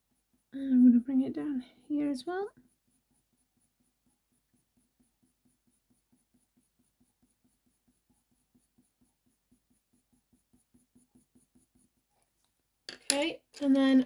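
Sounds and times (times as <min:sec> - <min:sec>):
coloured pencil scratching on paper: 0:00.0 - 0:12.6.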